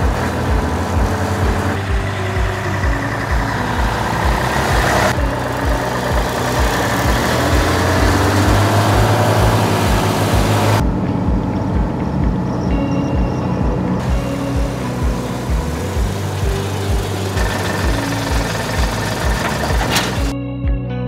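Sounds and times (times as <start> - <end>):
truck diesel engine running: 0.0 - 20.4
background music beat: 0.0 - 21.0.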